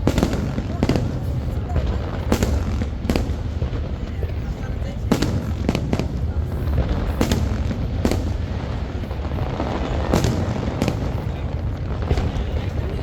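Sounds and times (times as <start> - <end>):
fireworks bursting bangs: 0.0 - 13.0.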